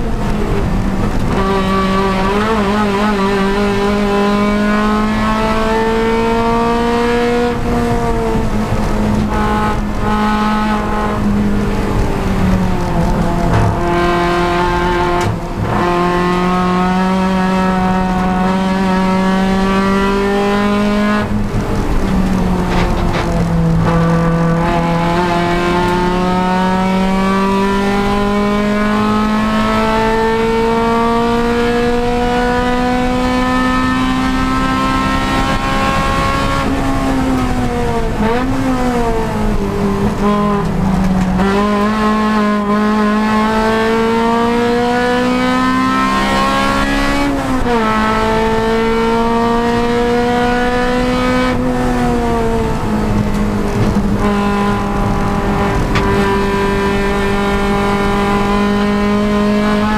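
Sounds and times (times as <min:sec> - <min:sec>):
race car engine under load: 0:00.0 - 0:59.9.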